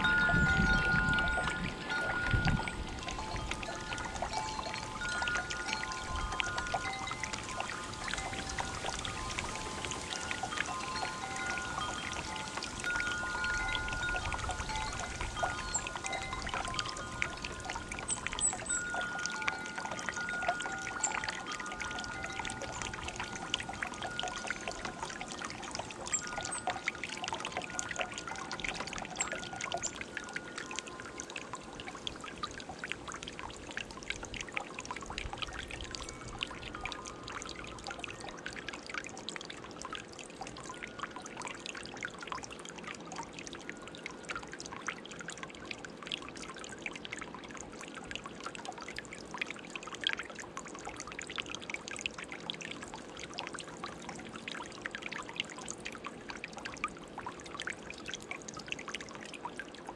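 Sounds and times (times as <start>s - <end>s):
fountain water trickling and splashing: 0.0s - 59.9s.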